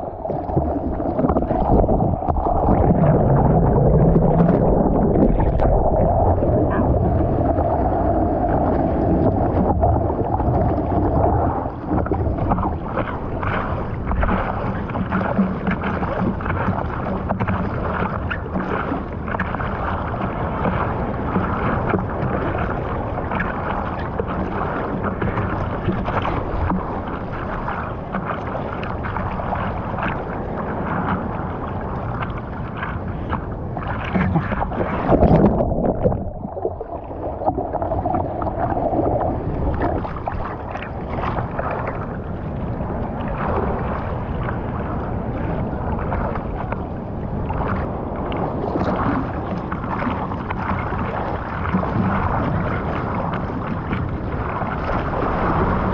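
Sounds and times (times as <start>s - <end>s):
water splashing against surfboard: 0.0s - 55.9s
wind on microphone: 0.0s - 55.9s.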